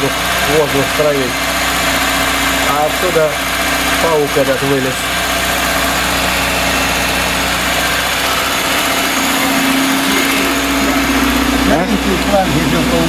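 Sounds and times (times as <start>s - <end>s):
car engine idling: 0.0s - 13.0s
steady low hum: 0.0s - 13.0s.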